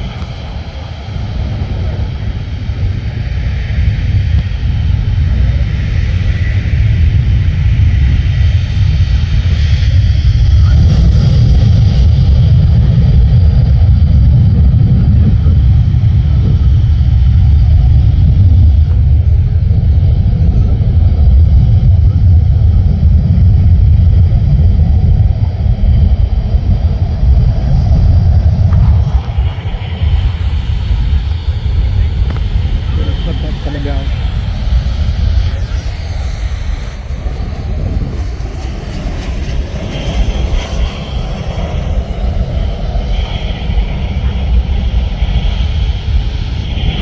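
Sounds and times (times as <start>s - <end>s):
jet engines rumbling: 0.0s - 47.0s.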